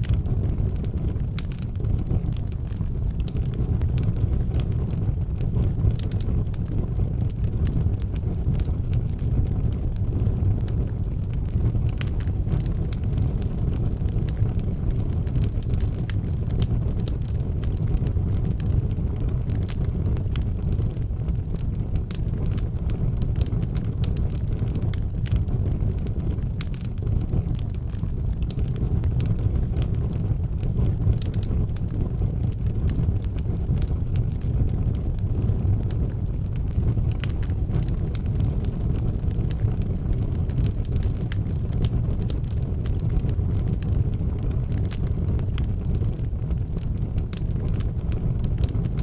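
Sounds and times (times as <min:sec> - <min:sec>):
steady low rumble: 0:00.0 - 0:49.0
wood fire crackling and popping: 0:00.0 - 0:49.0.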